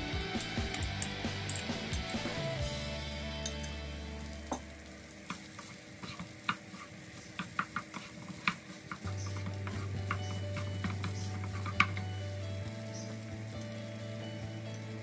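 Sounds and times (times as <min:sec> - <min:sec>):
rice sizzling in a pan: 0:00.0 - 0:15.0.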